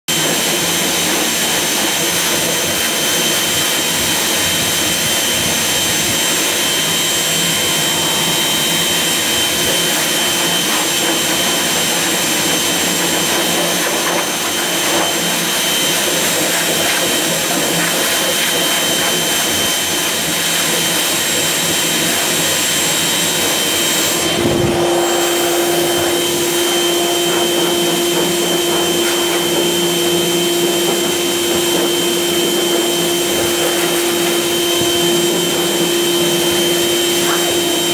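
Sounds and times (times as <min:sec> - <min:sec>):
blow dryer rushing air: 0:00.1 - 0:37.9
high motor whine: 0:00.1 - 0:37.9.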